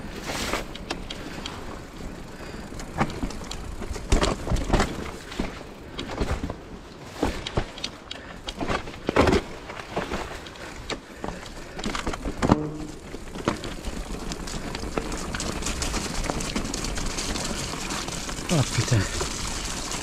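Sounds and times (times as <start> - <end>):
bike rattling over rocks: 0.0 - 20.0.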